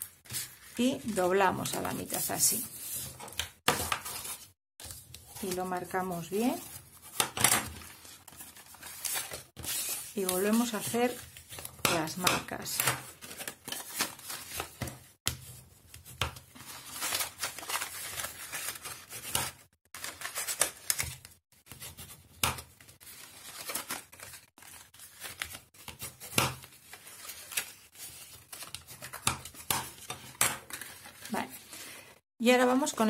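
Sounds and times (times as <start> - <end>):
paper rustling: 0.0 - 11.8, 12.7 - 32.0.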